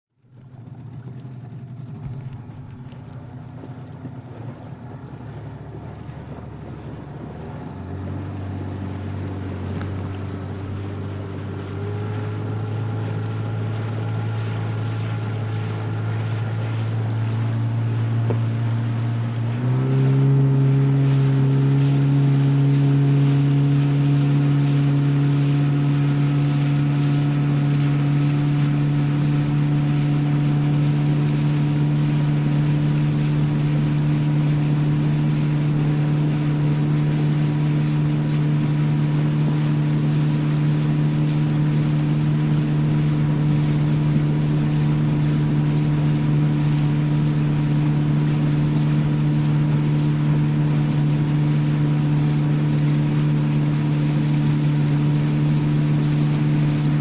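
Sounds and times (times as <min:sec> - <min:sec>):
motorboat engine speeding up: 0:00.1 - 0:57.0
wind and water rush: 0:00.3 - 0:57.0.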